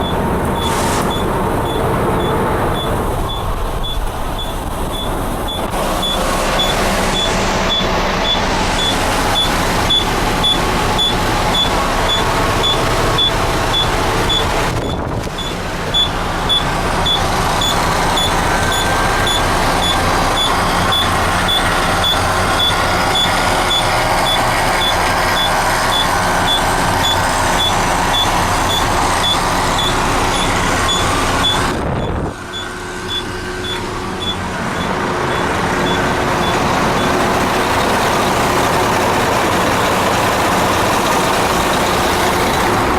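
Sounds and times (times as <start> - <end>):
backup alarm beeping: 0.0 - 38.4
dump truck engine running: 0.0 - 42.9.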